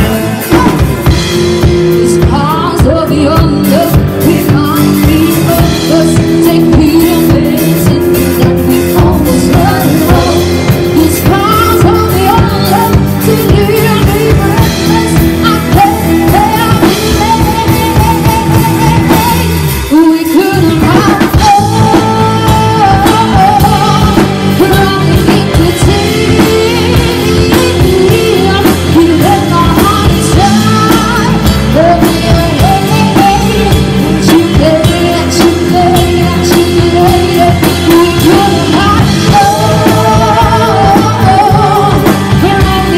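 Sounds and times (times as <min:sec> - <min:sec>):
drum kit: 0:00.0 - 0:42.9
electric bass: 0:00.0 - 0:42.9
electric guitar: 0:00.0 - 0:42.9
woman singing into microphone: 0:00.0 - 0:42.9.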